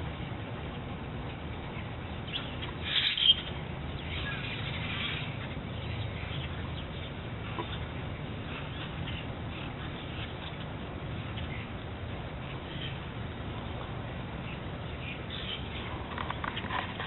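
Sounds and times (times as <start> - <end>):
birds calling and chirping: 0.0 - 17.0
low background rumble: 0.0 - 17.0.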